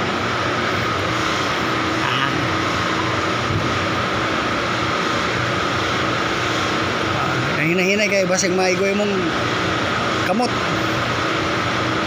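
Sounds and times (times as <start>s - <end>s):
high-pitched machine whine: 0.0s - 12.0s
low machinery hum: 0.0s - 12.0s.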